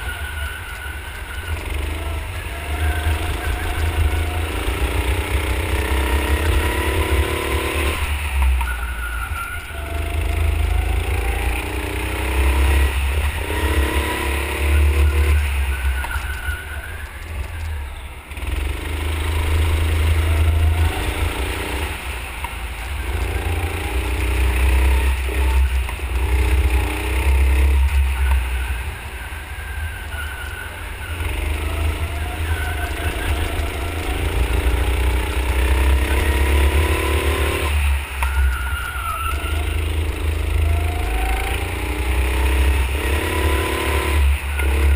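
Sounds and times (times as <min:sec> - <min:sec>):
go-kart motor accelerating: 0:00.0 - 0:44.9.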